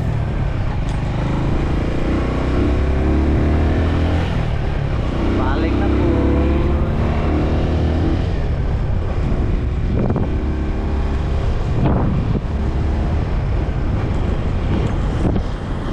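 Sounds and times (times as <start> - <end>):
motorcycle engine running: 0.0 - 15.9
wind buffeting microphone: 0.0 - 15.9.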